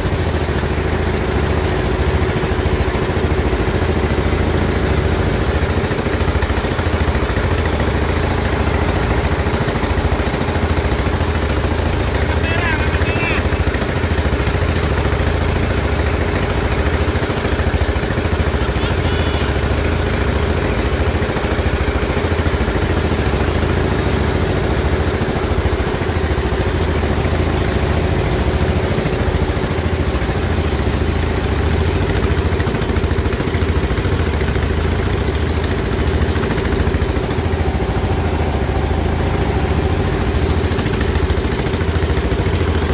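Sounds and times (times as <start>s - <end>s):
engine droning steadily: 0.0s - 42.9s.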